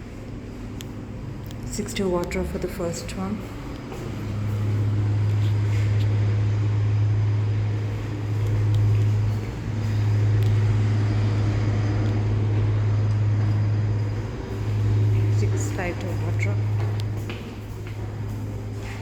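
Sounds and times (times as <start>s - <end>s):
loud low hum: 0.0s - 19.0s.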